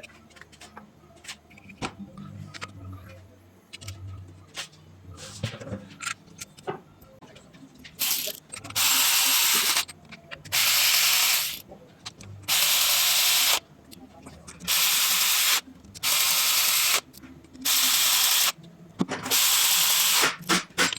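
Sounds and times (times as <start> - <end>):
tools and parts clicking: 1.5 - 4.2, 5.6 - 20.9.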